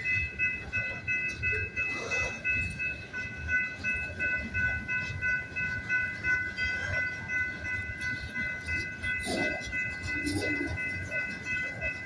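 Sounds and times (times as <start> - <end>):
crossing warning bell dinging: 0.0 - 12.0
freight train cars clattering: 0.0 - 12.0.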